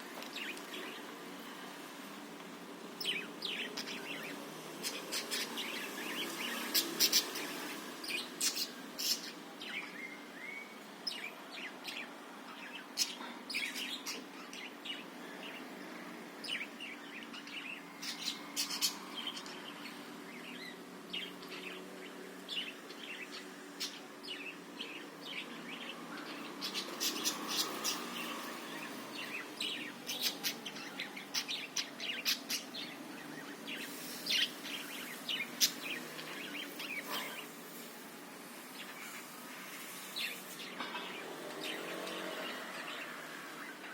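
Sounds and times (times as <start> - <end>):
parakeets chattering: 3.0 - 43.9.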